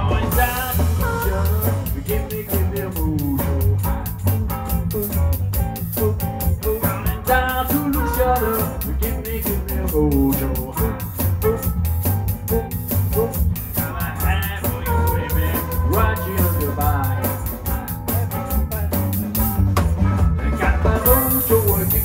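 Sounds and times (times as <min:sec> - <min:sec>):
electric blues band playing: 0:00.0 - 0:22.0.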